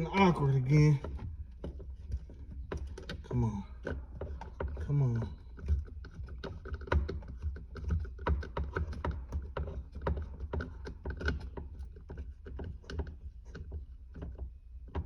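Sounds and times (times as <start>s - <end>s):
screwdriver clicks and scrapes on plastic: 1.0s - 15.0s.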